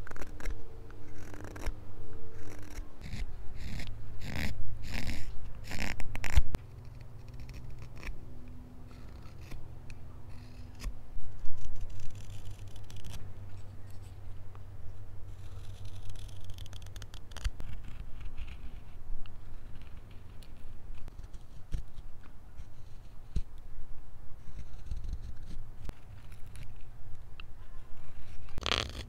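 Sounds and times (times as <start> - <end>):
knife carving wood: 0.0 - 14.2, 15.3 - 23.6, 24.4 - 26.8, 28.2 - 29.0.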